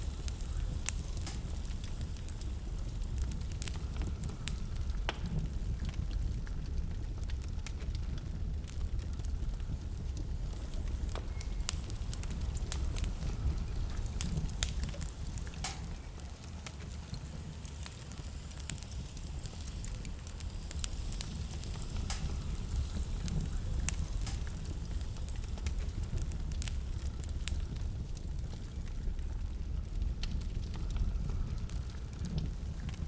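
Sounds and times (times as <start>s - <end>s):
fire crackling and popping: 0.0s - 33.0s
low rumble of burning: 0.0s - 33.0s.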